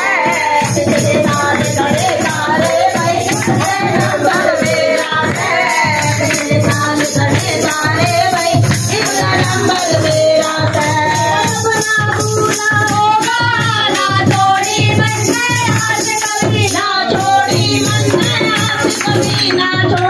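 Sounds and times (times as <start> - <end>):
devotional singing: 0.0 - 20.0
drum beat: 0.0 - 20.0
jingling tambourine percussion: 0.0 - 20.0
people clapping along: 0.0 - 20.0.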